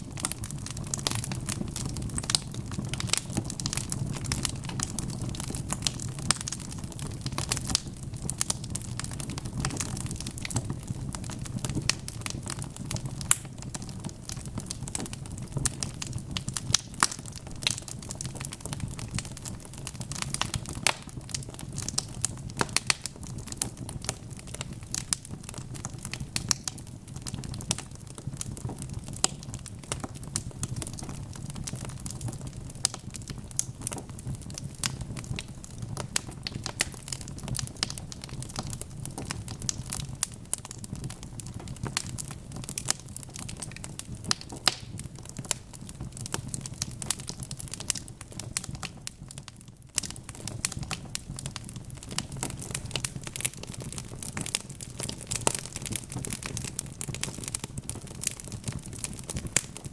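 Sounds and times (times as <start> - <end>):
flames rumbling: 0.0 - 59.9
logs crackling and popping: 0.0 - 59.9.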